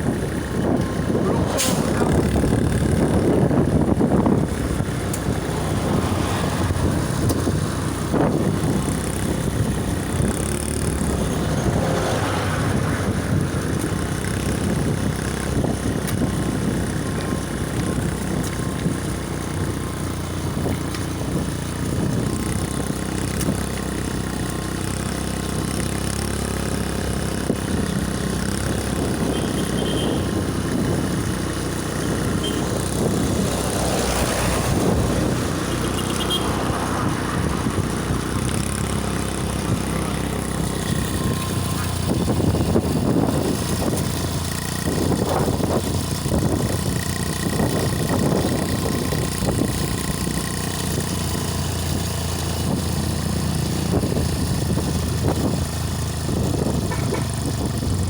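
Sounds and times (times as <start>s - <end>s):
road noise: 0.0s - 58.0s
vehicle engine: 0.0s - 58.0s.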